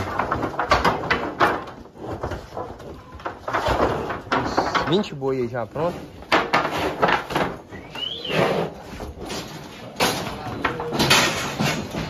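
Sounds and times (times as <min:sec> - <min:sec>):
cattle bumping in metal chute: 0:00.0 - 0:12.0.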